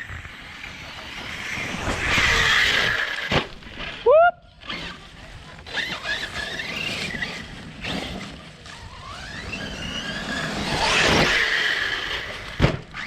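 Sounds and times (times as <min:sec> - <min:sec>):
electric motor whining: 0:00.0 - 0:04.0, 0:04.6 - 0:13.0.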